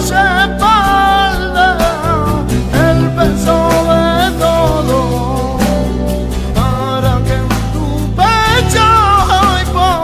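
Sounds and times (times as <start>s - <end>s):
worship song with vibrato melody: 0.0s - 10.0s.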